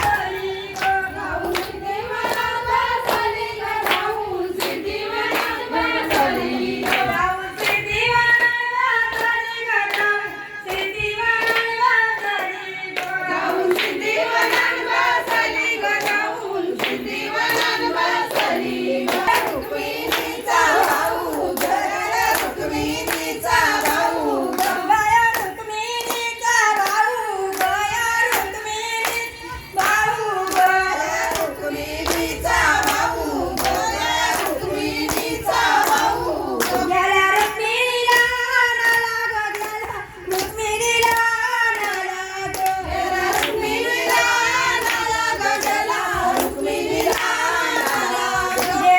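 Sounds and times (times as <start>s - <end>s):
rhythmic hand-clapping: 0.0s - 48.9s
woman singing devotional song: 0.0s - 48.9s.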